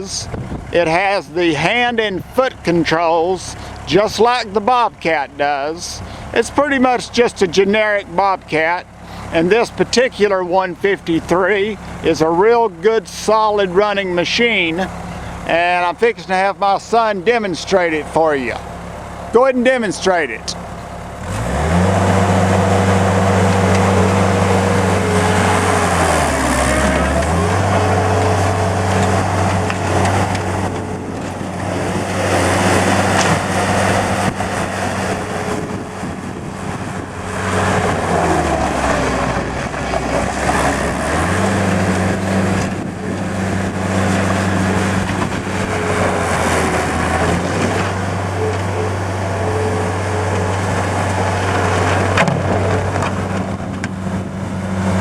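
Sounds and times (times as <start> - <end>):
diesel engine at high throttle: 0.0 - 55.0.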